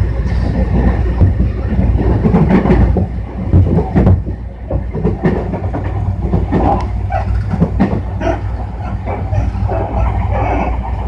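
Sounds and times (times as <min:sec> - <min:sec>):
electric train rumbling: 0:00.0 - 0:11.0
wheels clacking over rail joints: 0:00.0 - 0:11.0.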